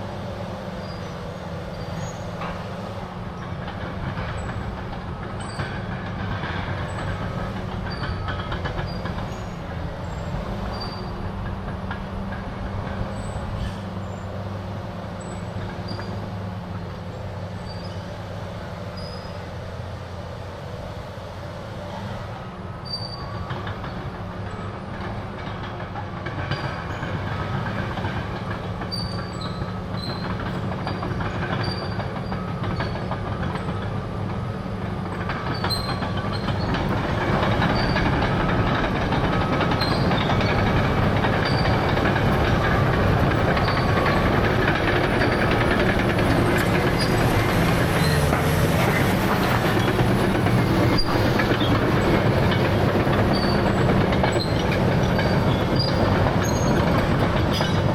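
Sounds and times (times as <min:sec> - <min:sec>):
bulldozer diesel engine running: 0:00.0 - 0:57.9
steel tracks clattering and squeaking: 0:00.0 - 0:57.9.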